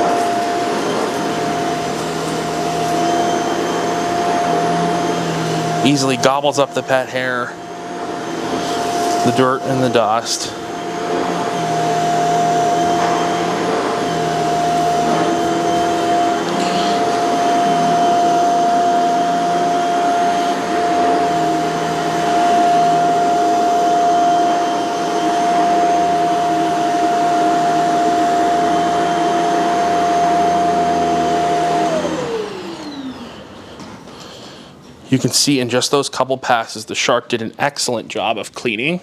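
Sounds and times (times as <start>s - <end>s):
vacuum cleaner motor whine: 0.0s - 34.9s.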